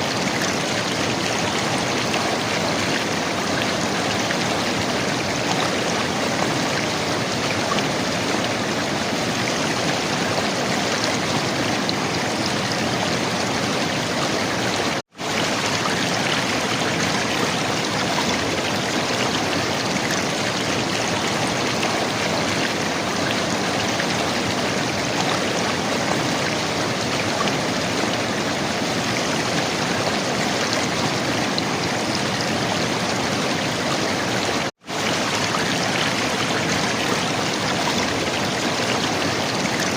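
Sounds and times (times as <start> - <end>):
river water flowing and gurgling: 0.0 - 39.9.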